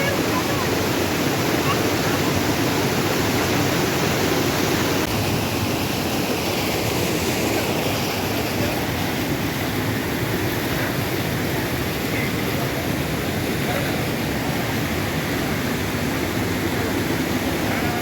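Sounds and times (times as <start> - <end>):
waterfall and stream rushing: 0.0 - 18.0.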